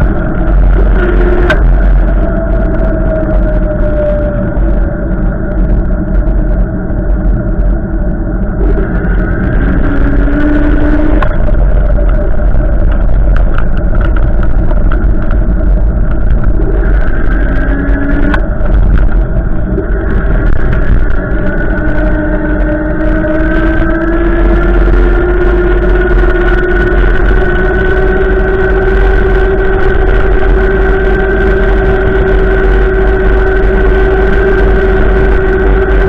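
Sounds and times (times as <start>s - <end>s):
whistling wind tones: 0.0s - 36.0s
wind rumble on microphone: 0.0s - 36.0s.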